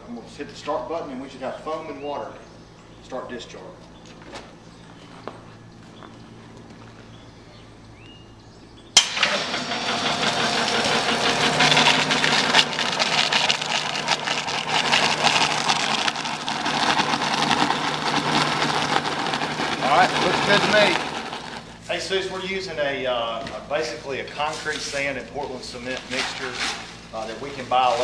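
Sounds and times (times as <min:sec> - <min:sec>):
mixer running hum: 0:00.0 - 0:28.0.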